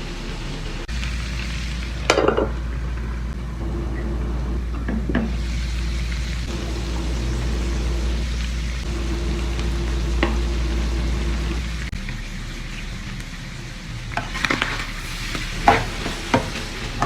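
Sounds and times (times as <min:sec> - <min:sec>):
meat sizzling in a pan: 0:00.0 - 0:03.4, 0:04.8 - 0:17.0.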